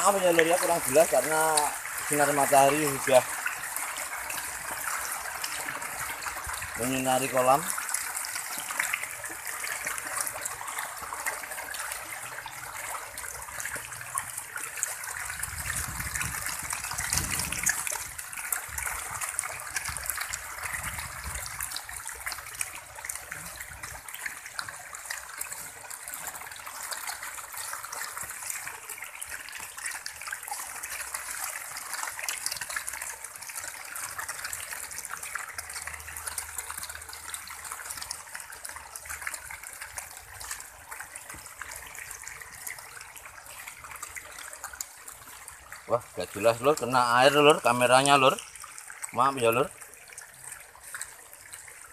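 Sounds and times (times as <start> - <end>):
fish splashing in water: 0.0 - 6.9, 7.6 - 46.9, 47.6 - 51.9.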